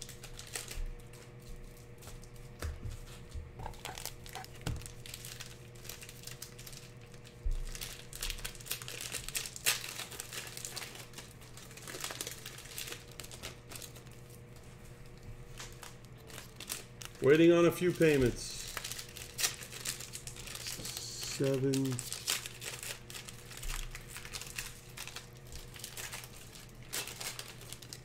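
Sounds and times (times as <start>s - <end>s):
plastic wrapping crinkling: 0.0s - 28.0s.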